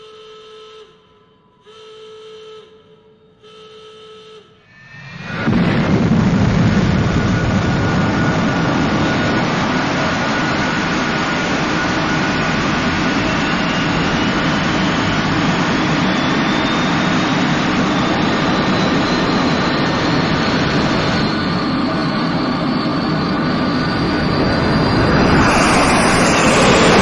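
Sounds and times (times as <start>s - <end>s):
faint high whine: 0.0s - 27.0s
rocket engine roar: 4.7s - 27.0s.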